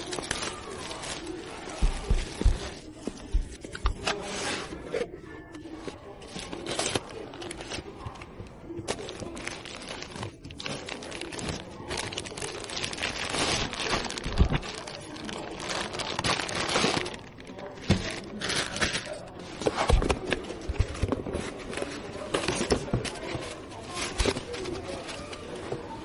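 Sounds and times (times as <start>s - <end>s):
packaging crinkling and scraping: 0.0s - 26.0s.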